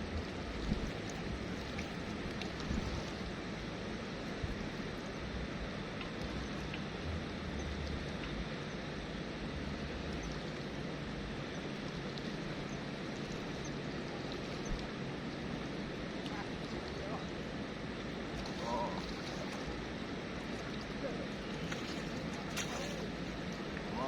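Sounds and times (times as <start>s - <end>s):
wind rumble on microphone: 0.0s - 19.9s.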